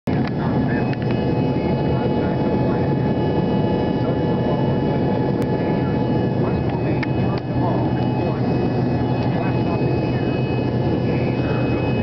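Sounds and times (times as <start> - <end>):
jet airliner cabin noise: 0.1 - 12.0
steady hums: 0.1 - 12.0.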